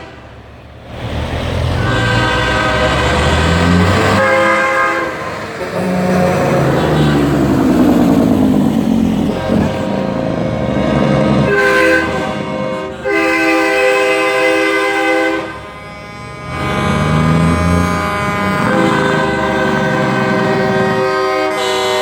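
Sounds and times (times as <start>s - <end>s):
truck air horns blasting: 0.0s - 0.5s, 1.6s - 22.0s.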